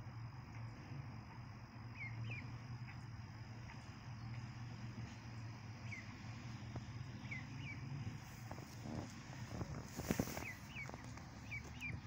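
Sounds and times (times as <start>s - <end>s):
steady low hum: 0.0s - 12.0s
ducklings peeping: 1.9s - 12.0s.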